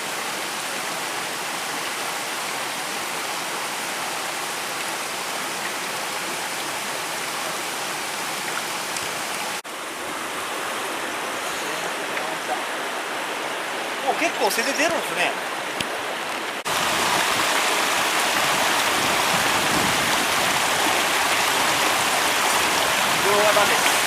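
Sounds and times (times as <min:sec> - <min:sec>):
stream water rushing over rocks: 0:00.0 - 0:24.0.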